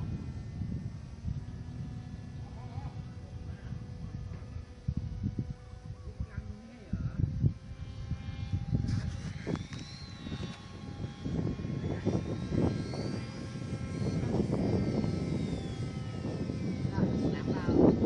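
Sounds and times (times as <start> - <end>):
model aircraft propeller buzzing: 0.0 - 18.0
wind buffeting microphone: 0.0 - 18.0.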